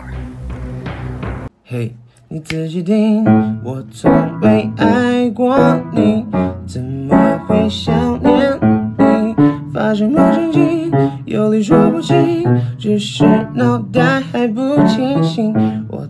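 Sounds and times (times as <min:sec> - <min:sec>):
pop music with guitar and keyboard: 0:00.0 - 0:16.0.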